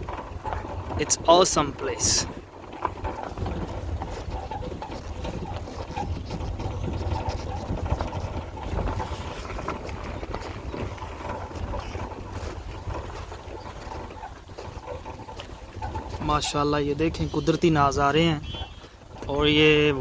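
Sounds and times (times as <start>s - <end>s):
vehicle rumbling on gravel road: 0.0s - 20.0s
wind buffeting microphone: 0.0s - 20.0s.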